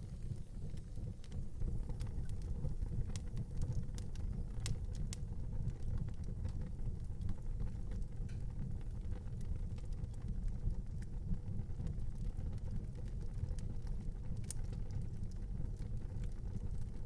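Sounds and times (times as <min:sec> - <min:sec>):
fire crackling and popping: 0:00.0 - 0:17.0
wood fire rumbling: 0:00.0 - 0:17.0.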